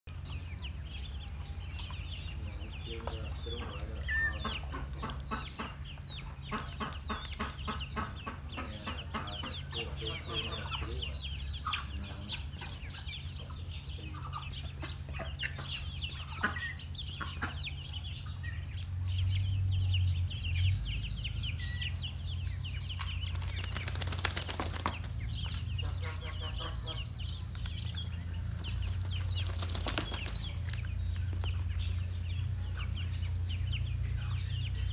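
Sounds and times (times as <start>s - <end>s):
ducklings peeping: 0.1s - 34.9s.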